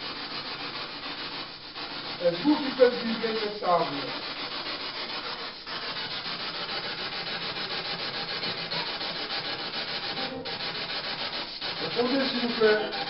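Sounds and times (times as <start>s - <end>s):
fluttering rasping static: 0.0s - 13.0s.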